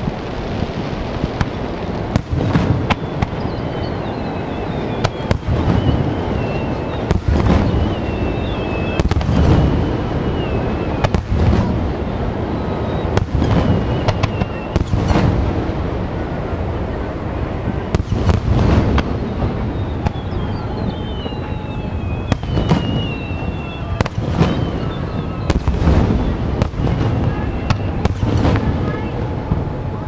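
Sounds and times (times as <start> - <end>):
fireworks bangs and crackles: 0.0 - 30.0
low rumble of bursting shells: 0.0 - 30.0
falling firework whistles: 0.9 - 30.0.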